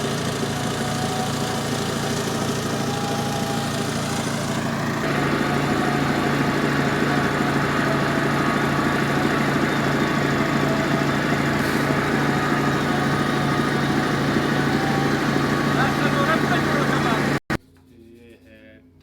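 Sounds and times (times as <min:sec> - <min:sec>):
small engine running: 0:00.0 - 0:17.5.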